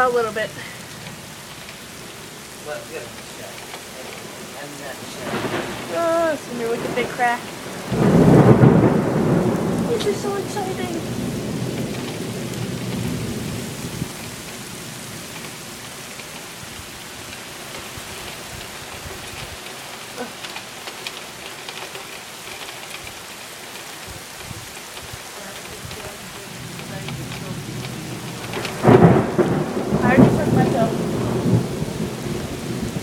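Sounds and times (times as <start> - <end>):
heavy rain falling: 0.0 - 33.0
low rumble of thunder: 0.0 - 33.0.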